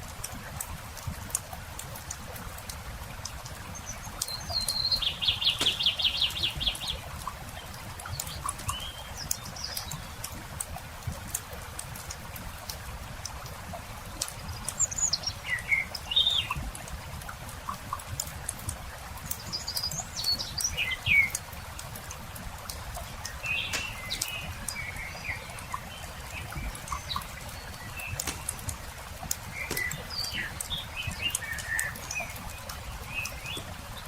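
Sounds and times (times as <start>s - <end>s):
campfire crackling: 0.0s - 14.8s, 20.1s - 34.0s
songbirds chirping: 0.0s - 34.0s.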